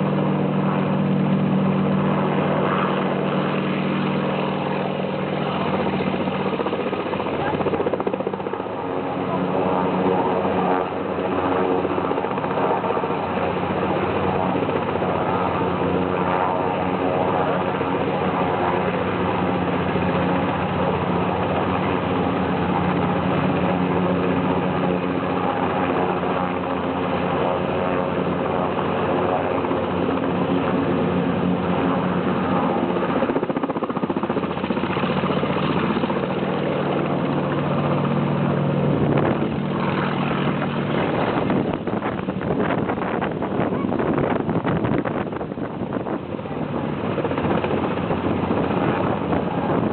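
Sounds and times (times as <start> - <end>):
helicopter engine drone: 0.0 - 49.9.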